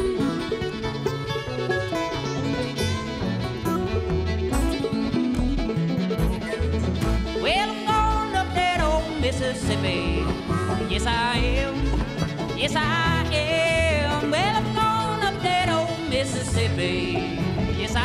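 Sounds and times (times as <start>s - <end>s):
bluegrass band playing: 0.0s - 18.0s
harmonica bending notes: 0.0s - 18.0s.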